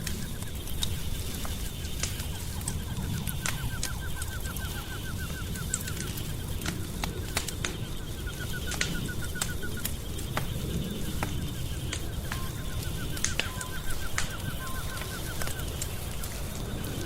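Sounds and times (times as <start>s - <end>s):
rapid chirping trill: 0.0s - 17.0s
wood fire crackling: 0.0s - 17.0s.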